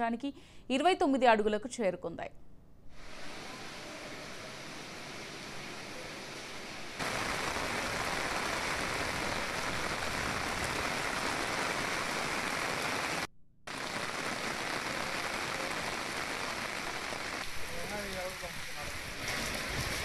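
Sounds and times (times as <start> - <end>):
heavy rain hissing: 2.9 - 20.0.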